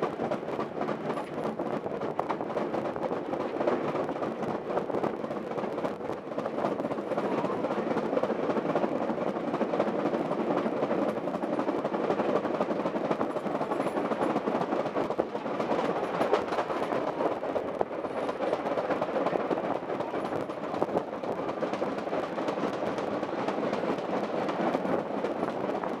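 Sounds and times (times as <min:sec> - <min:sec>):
steam locomotive working: 0:00.0 - 0:26.0
train wheels rumbling on track: 0:00.0 - 0:26.0.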